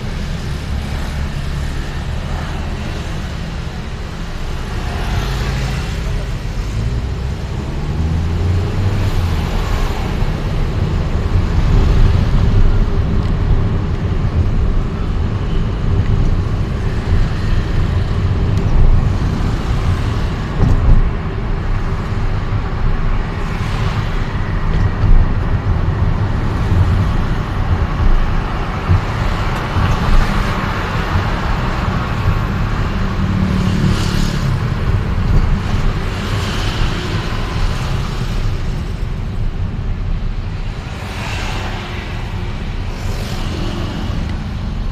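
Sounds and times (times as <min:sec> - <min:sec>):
city road traffic: 0:00.0 - 0:44.9.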